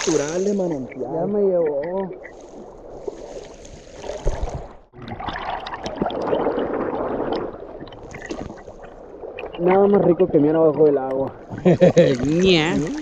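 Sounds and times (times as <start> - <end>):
small water splashes: 0.0 - 1.0, 1.6 - 13.0
spring water gurgling and rushing: 0.0 - 13.0.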